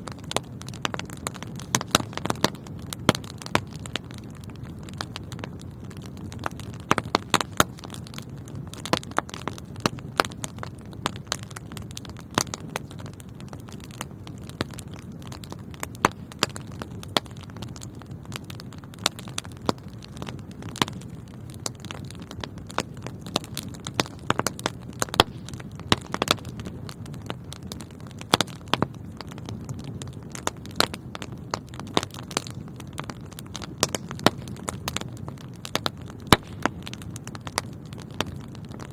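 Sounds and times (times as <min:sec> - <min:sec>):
fire flames rushing: 0:00.0 - 0:38.9
fire popping and crackling: 0:00.0 - 0:38.9.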